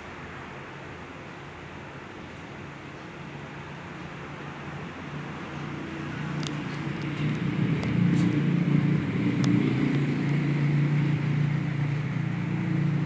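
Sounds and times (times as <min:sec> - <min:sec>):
ceiling fans running: 0:00.0 - 0:13.0.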